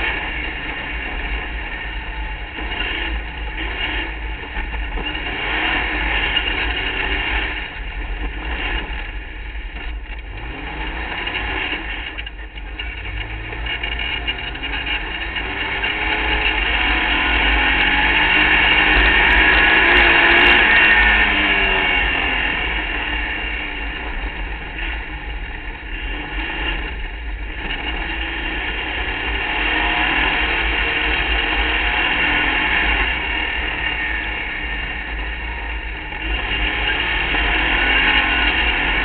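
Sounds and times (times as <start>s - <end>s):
race car engine running hard: 0.0s - 39.0s.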